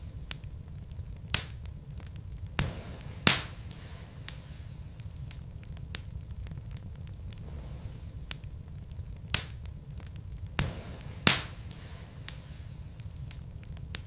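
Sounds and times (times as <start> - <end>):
logs burning with crackles: 0.0 - 14.0
sharp pops of fire: 0.0 - 14.0.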